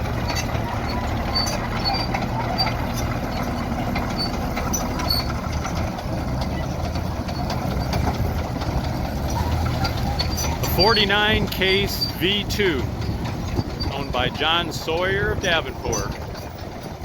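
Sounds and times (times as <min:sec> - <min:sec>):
farm machine engine humming: 0:00.0 - 0:17.0.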